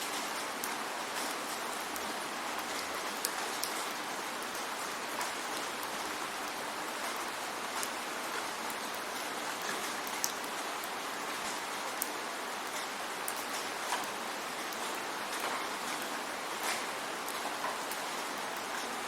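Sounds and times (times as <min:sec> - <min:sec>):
rain falling: 0:00.0 - 0:19.0
raindrops ticking on a surface: 0:00.0 - 0:19.0.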